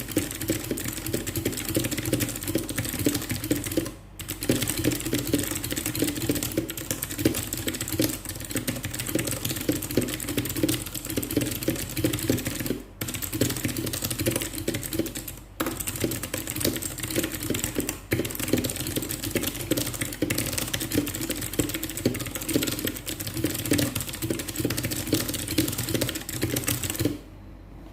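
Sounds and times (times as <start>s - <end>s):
mechanical keyboard typing: 0.0s - 27.2s.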